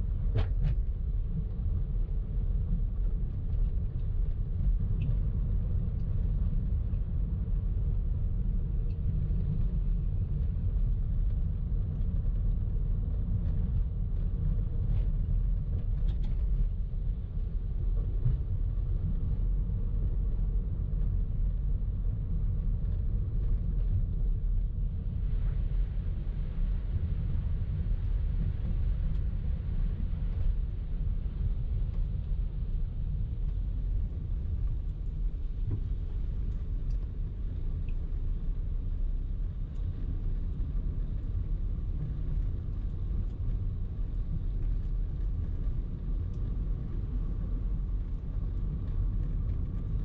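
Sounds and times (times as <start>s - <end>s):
car engine and road rumble: 0.0s - 50.0s
faint hum: 0.0s - 50.0s.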